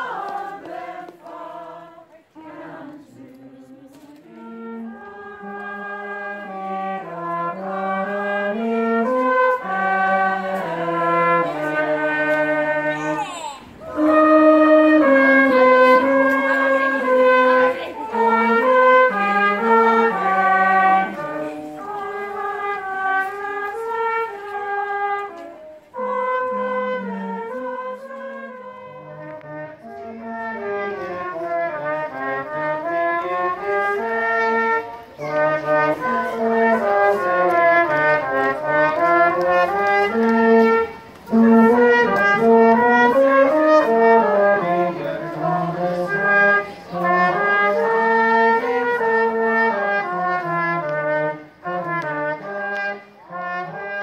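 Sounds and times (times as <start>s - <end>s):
brass horns playing in harmony: 0.0s - 54.0s.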